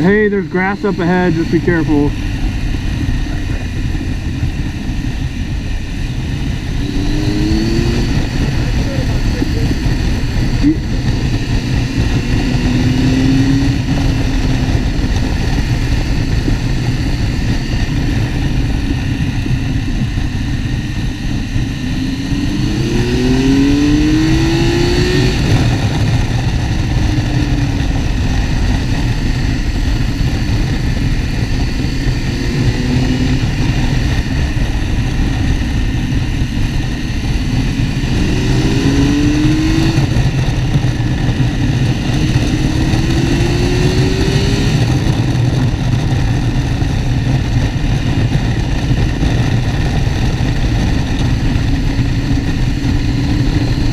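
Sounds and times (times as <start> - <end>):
motorcycle engine accelerating: 0.0 - 53.9
wind noise on microphone: 0.0 - 53.9.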